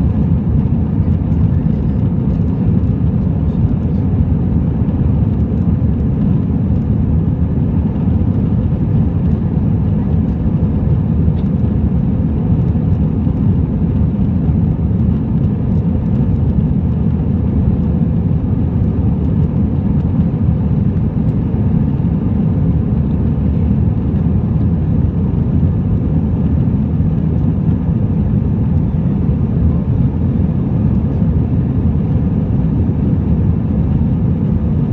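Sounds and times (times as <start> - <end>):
airplane cabin rumble: 0.0 - 34.9.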